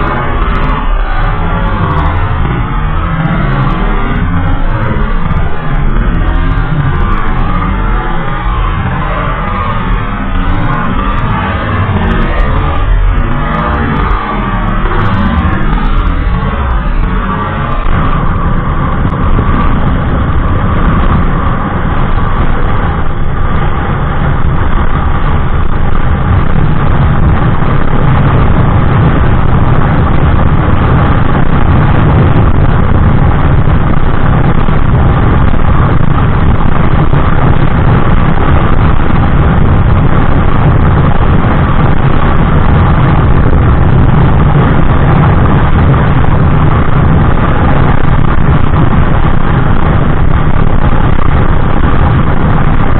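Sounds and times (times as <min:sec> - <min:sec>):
scooter engine running at high speed: 0:00.0 - 0:52.9.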